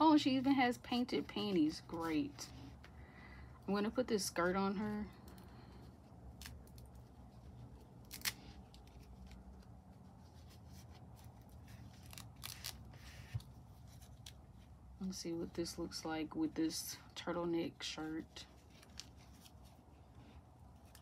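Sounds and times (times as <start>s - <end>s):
soft fabric rustling: 0.0s - 3.0s, 3.6s - 21.0s.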